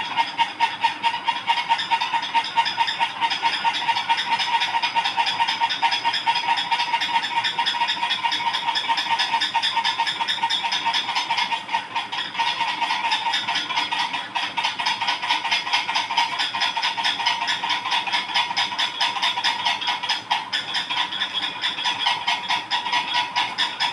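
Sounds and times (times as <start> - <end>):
ceiling fan rhythmic squeak: 0.0 - 23.9.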